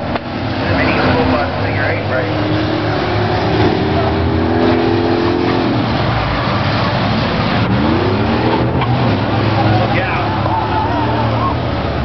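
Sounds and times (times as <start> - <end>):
engine revving: 0.0 - 12.0
racing vehicle engines: 0.0 - 12.0.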